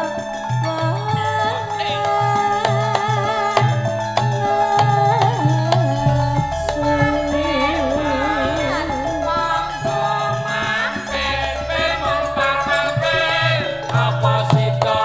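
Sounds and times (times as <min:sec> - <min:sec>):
bass notes: 0:00.0 - 0:15.0
hand drum: 0:00.0 - 0:15.0
wavering vibrato melody: 0:00.0 - 0:15.0.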